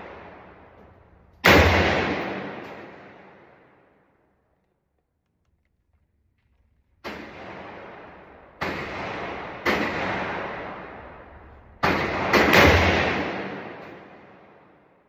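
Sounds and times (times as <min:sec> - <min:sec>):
gunshots with long echo: 0:00.0 - 0:04.3, 0:07.0 - 0:15.0.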